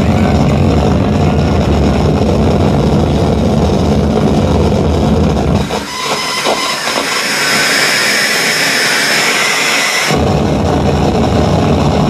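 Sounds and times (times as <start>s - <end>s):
loud rumbling noise music: 0.0s - 12.0s.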